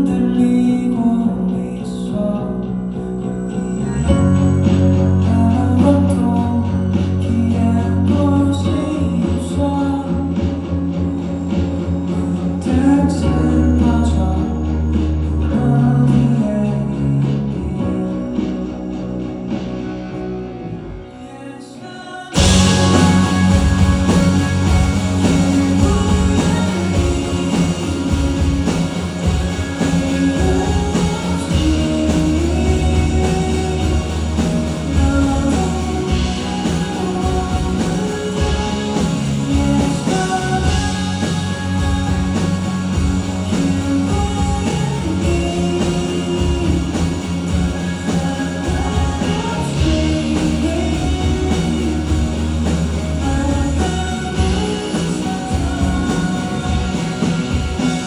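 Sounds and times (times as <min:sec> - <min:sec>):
man singing: 0:00.0 - 0:03.0, 0:05.1 - 0:10.6, 0:12.4 - 0:18.5, 0:21.1 - 0:58.0
guitar: 0:00.0 - 0:58.0
live pop-rock band: 0:00.0 - 0:58.0.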